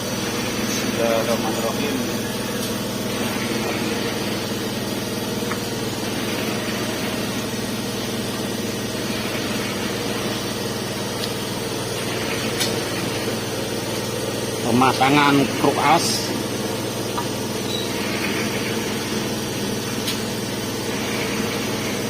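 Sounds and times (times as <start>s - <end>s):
concrete mixer engine running: 0.0s - 22.0s.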